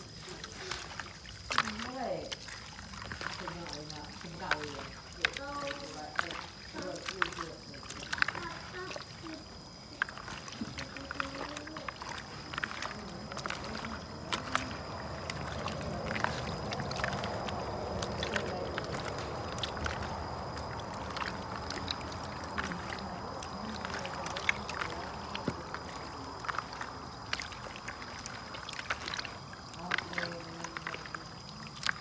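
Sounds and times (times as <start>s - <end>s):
hands squelching meat in marinade: 0.0s - 32.0s.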